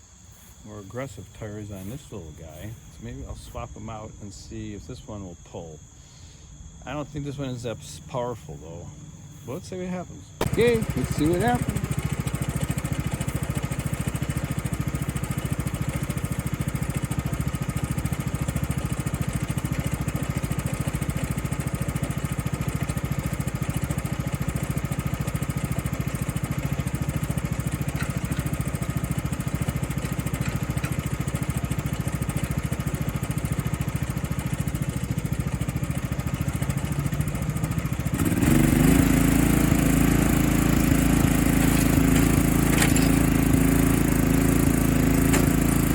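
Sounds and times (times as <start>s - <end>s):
lawn tractor engine running: 0.0s - 4.8s, 6.8s - 45.9s.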